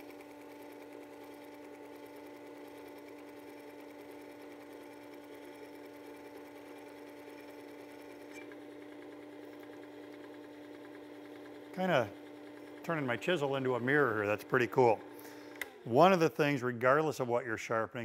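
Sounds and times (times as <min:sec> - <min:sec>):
sharpener motor hum: 0:00.0 - 0:16.4.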